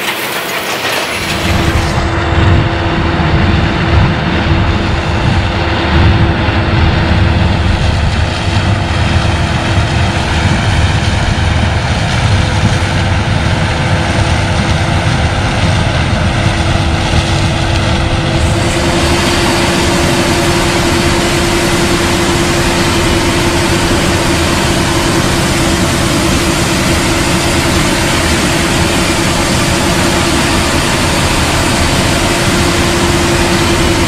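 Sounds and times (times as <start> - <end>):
harvest machinery rumbling: 0.0 - 34.0
steady machine whine: 0.0 - 34.0.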